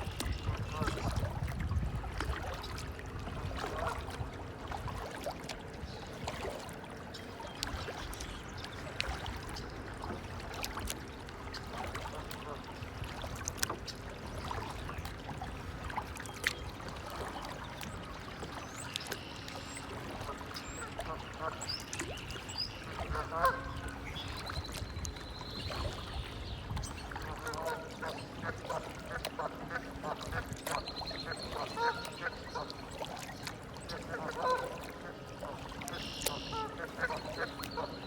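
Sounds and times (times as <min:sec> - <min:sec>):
small water splashes and drips: 0:00.0 - 0:38.0
water trickling and lapping: 0:00.0 - 0:38.0.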